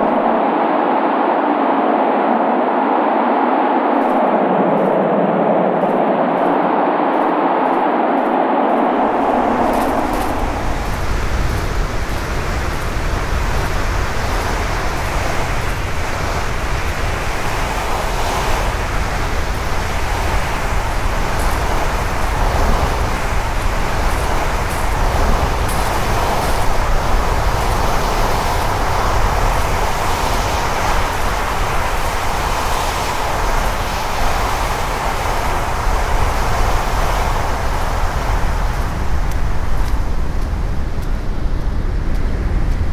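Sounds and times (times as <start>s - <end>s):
wind blowing over microphone: 0.0s - 42.9s.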